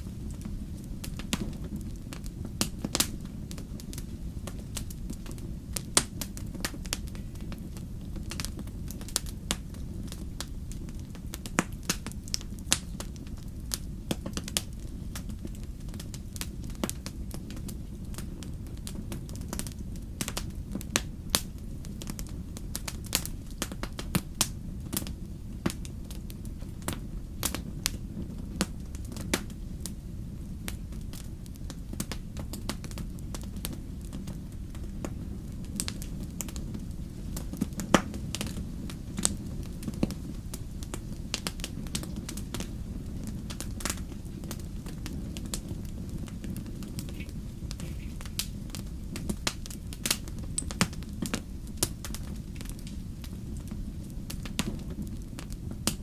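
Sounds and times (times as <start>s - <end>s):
campfire crackling and popping: 0.0s - 56.0s
steady low rumble: 0.0s - 56.0s.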